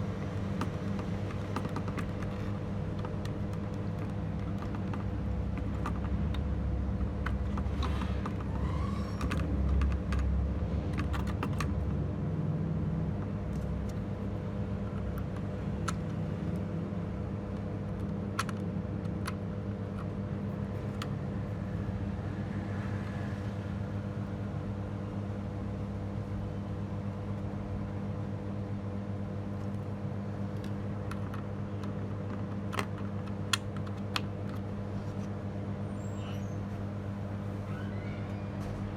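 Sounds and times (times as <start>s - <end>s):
electrical hum: 0.0s - 38.9s.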